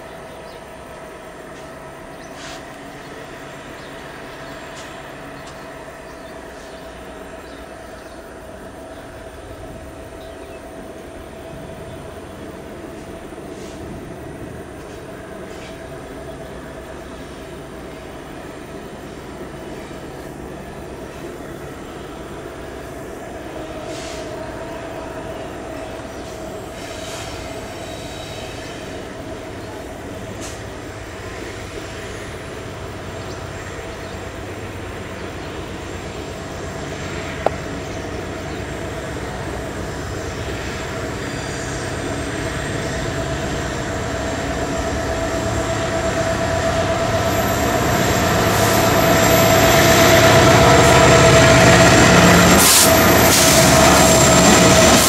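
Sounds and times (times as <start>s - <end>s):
diesel locomotive engine rumble: 0.0s - 55.0s
train wheel noise: 0.0s - 55.0s.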